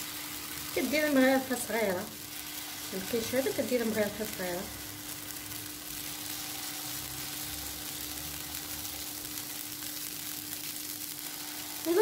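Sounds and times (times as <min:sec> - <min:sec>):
pancake batter sizzling in a pan: 0:00.0 - 0:12.0.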